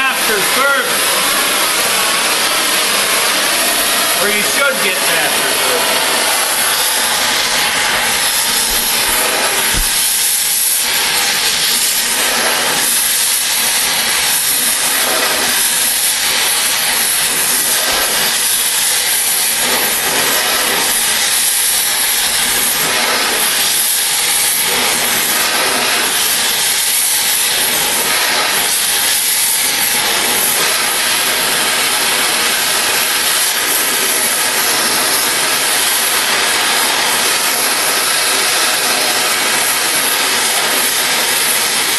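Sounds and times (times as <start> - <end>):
cutting torch hissing: 0.0 - 41.9.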